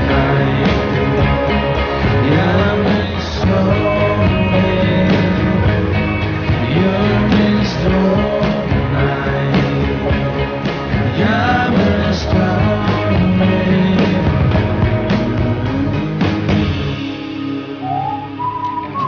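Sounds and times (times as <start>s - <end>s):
song with singing and band: 0.0s - 19.0s.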